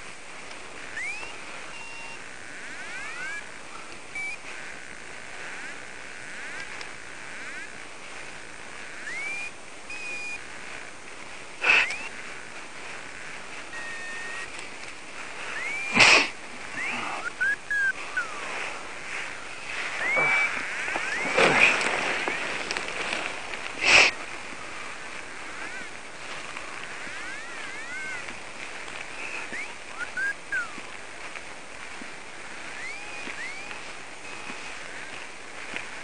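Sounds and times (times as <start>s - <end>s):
birds chirping: 0.0s - 36.0s
steady high hiss: 0.0s - 36.0s.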